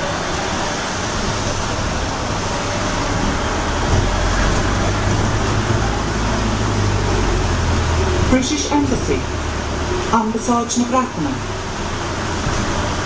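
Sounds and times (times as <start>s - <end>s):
bus road and drivetrain noise: 0.0s - 13.0s.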